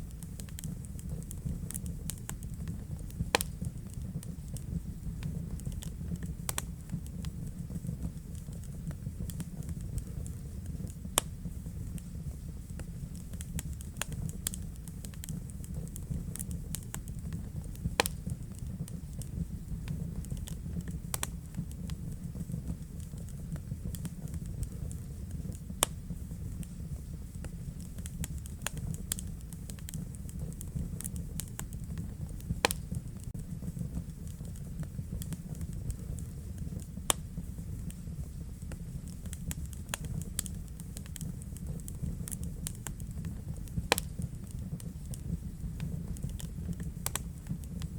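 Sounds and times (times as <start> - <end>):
fire crackling and popping: 0.0 - 47.9
fire flames rumbling: 0.0 - 47.9.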